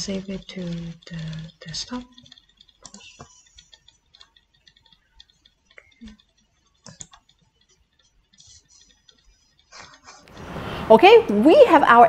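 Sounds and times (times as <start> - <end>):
mouse and keyboard clicks: 0.0 - 10.4.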